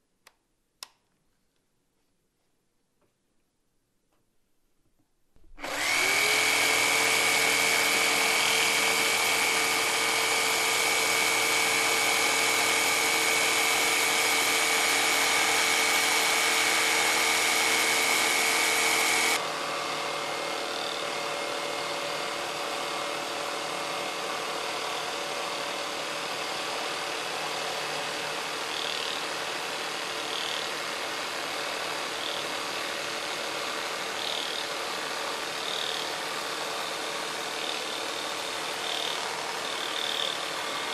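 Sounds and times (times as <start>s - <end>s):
jigsaw cutting wood: 5.5s - 40.9s.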